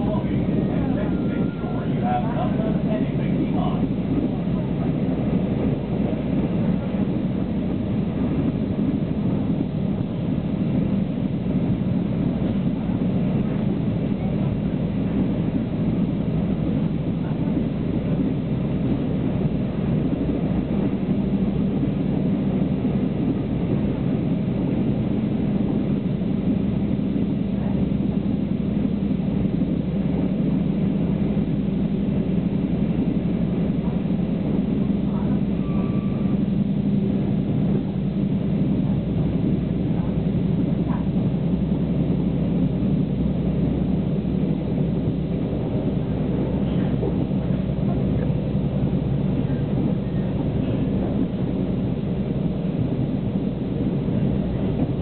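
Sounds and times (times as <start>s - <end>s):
constant hum: 0.0s - 55.0s
train running rumble inside carriage: 0.0s - 55.0s.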